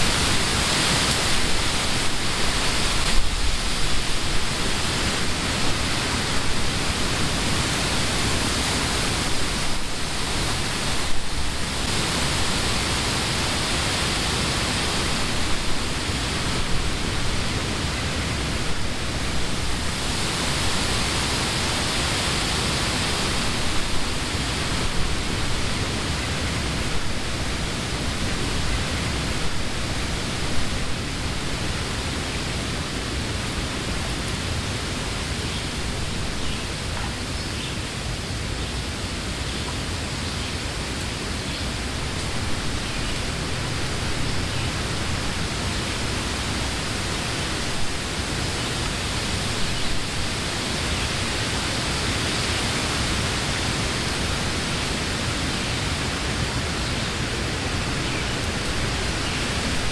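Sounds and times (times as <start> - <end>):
wind rumble on microphone: 0.0 - 59.9
wind rushing through leaves: 0.0 - 59.9.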